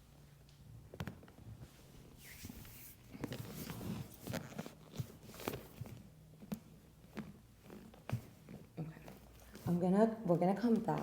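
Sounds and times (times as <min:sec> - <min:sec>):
rustling on treatment table: 0:01.0 - 0:10.0.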